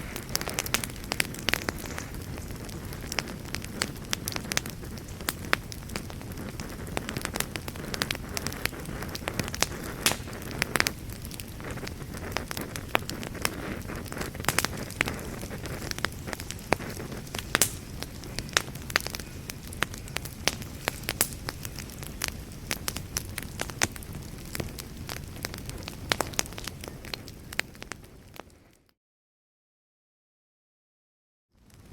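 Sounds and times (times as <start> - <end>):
fire crackling and popping: 0.0 - 28.9, 31.6 - 31.9
low rumble of flames: 0.0 - 28.9, 31.6 - 31.9.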